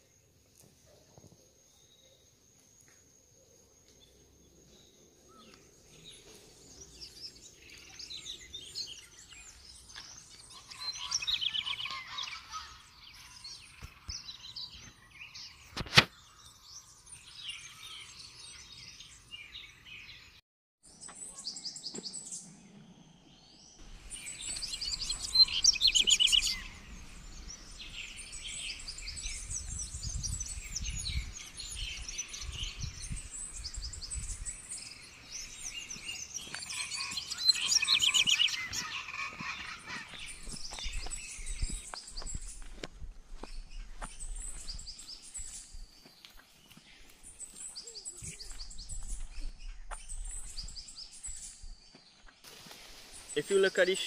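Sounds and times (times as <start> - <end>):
birds chirping and trilling: 3.3 - 54.0.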